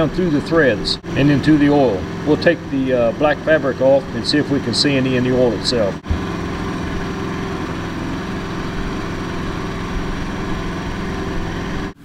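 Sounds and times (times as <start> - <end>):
engine running with even hum: 0.0 - 12.0.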